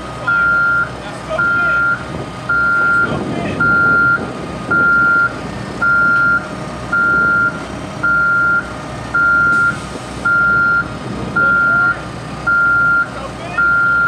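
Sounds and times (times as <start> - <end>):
engine running: 0.0 - 14.0
truck reversing alarm beeping: 0.0 - 14.0.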